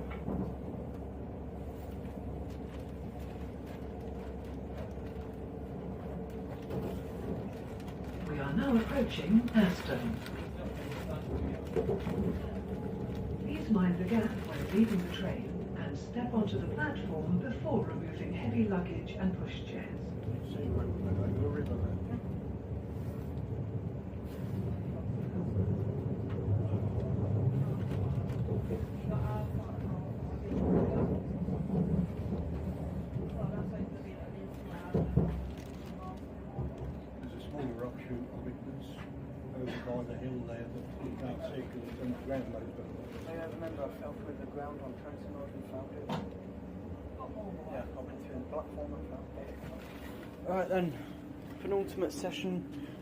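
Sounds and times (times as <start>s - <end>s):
train interior rumble and hum: 0.0s - 53.0s.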